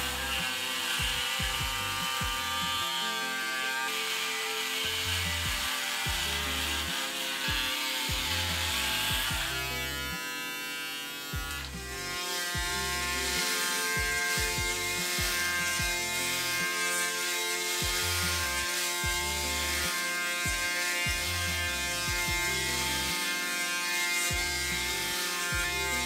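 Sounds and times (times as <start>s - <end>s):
background music with held chords: 0.0s - 26.0s
electric shaver buzzing: 0.0s - 26.0s.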